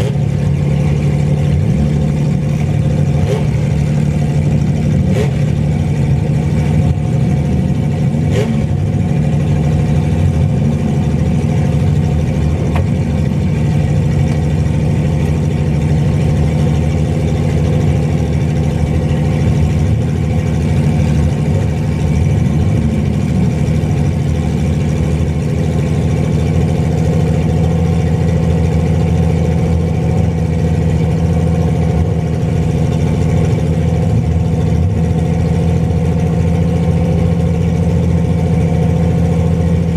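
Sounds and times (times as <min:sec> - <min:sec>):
pickup truck engines droning: 0:00.0 - 0:39.9.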